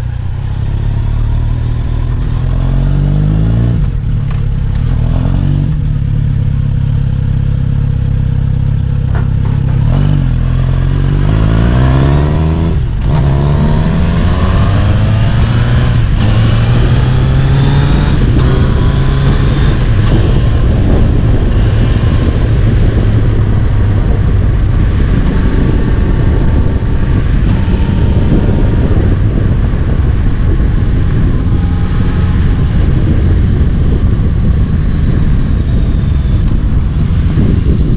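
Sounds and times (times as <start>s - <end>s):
motorcycle engine revving: 0.0s - 37.9s
wind and road noise: 0.0s - 37.9s.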